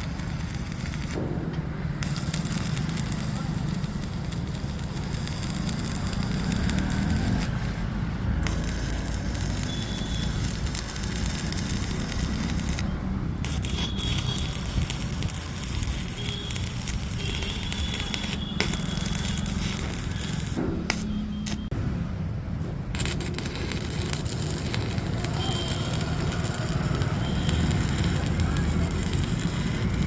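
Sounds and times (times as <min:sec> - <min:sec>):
arc welding crackling sizzle: 0:00.0 - 0:21.8, 0:23.0 - 0:30.0.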